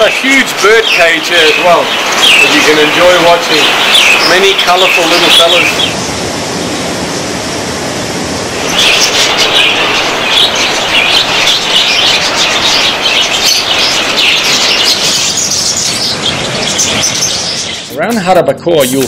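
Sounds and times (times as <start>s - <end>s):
budgerigars chirping and warbling: 0.0s - 6.0s, 8.5s - 19.0s
steady hiss: 0.0s - 19.0s.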